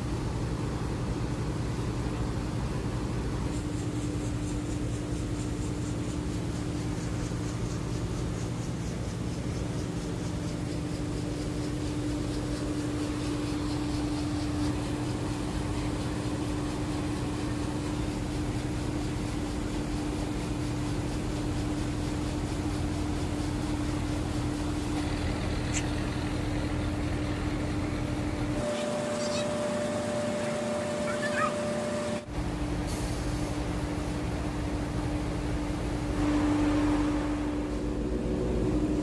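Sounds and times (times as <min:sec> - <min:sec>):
boat engine drone: 0:00.0 - 0:39.0
high steady hum: 0:00.0 - 0:39.0.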